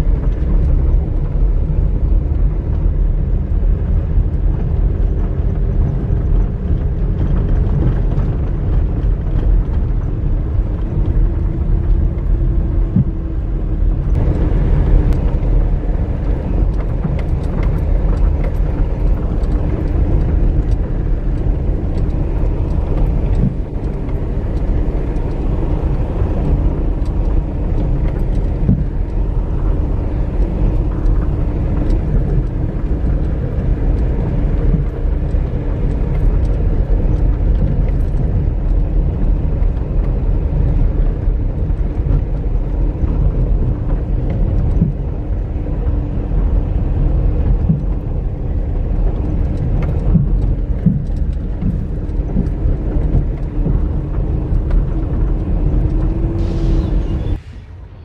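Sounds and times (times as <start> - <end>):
road rumble: 0.0 - 58.0
vehicle engine running: 0.0 - 58.0.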